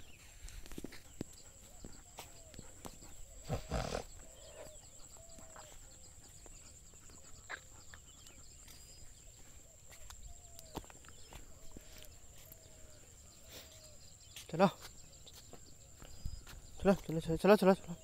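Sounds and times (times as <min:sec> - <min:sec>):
footsteps on dirt path: 0:00.0 - 0:18.0.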